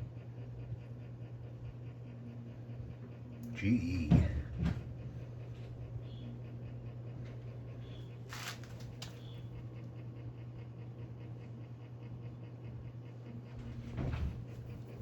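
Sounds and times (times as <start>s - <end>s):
fan motor hum: 0.0s - 15.0s.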